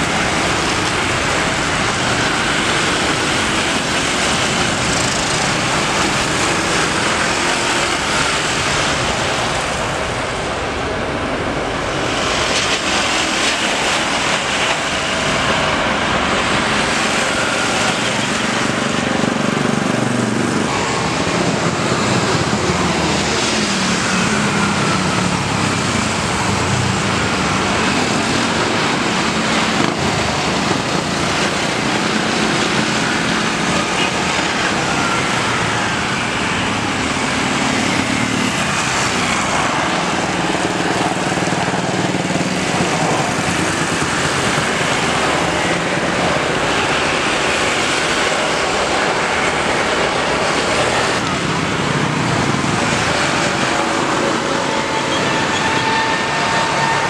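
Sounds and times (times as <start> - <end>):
jet engines landing: 0.0 - 57.0.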